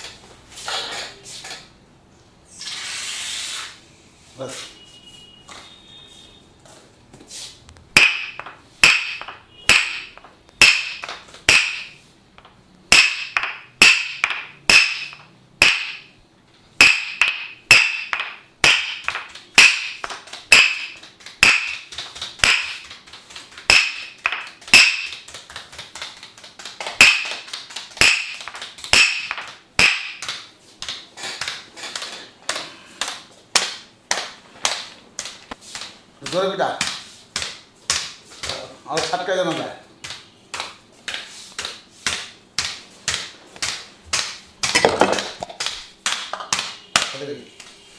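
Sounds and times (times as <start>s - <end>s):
percussive massage taps: 7.9s - 16.1s, 16.8s - 47.2s.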